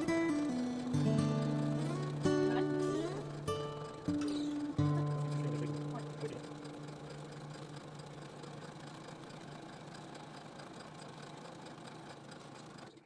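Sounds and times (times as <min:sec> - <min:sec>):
sewing machine running: 0:00.0 - 0:13.0.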